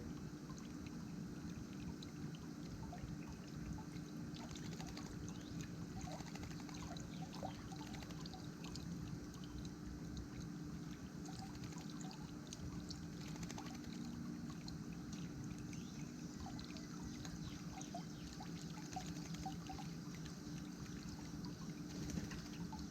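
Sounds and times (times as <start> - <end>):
water trickling and splashing: 0.0 - 22.9.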